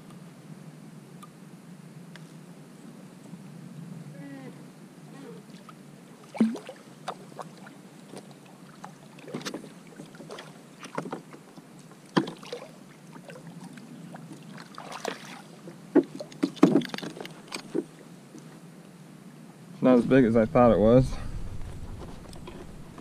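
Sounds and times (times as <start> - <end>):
wind and water hiss: 0.0 - 23.0.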